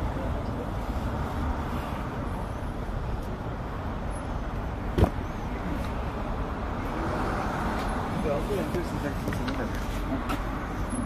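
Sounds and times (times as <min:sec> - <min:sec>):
traffic road rumble: 0:00.0 - 0:11.0.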